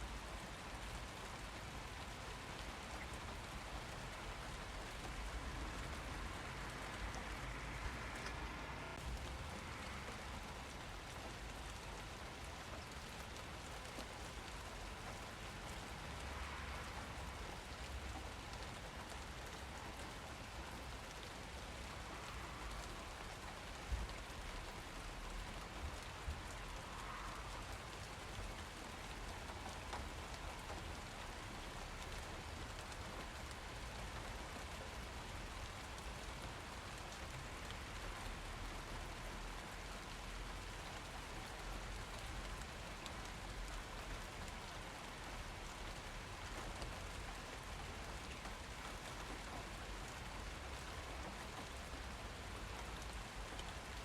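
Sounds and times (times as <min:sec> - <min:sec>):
rain pattering: 0:00.0 - 0:54.0
raindrops ticking: 0:00.1 - 0:54.0.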